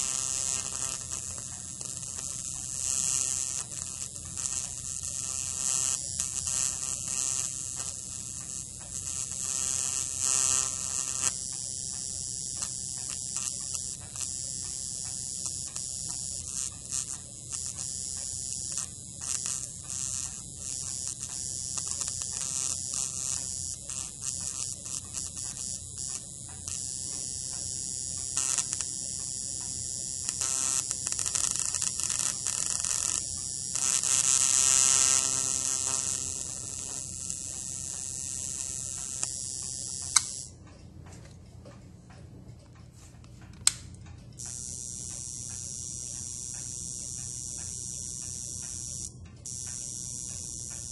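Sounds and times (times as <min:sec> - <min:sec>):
electric spark buzzing: 0:00.0 - 0:40.6, 0:44.4 - 0:50.9.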